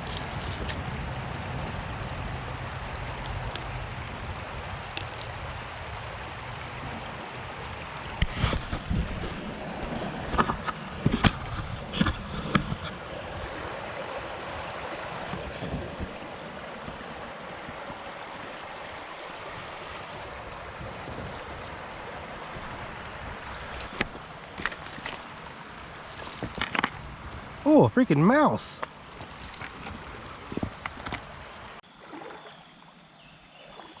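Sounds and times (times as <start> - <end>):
river water rushing: 0.0 - 11.0, 12.8 - 33.0.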